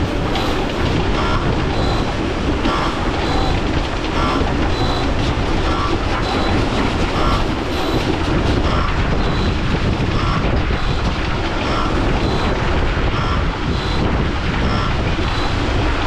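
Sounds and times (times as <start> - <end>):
faint rhythmic clatter: 0.0 - 16.0
heavy machine running: 0.0 - 16.0.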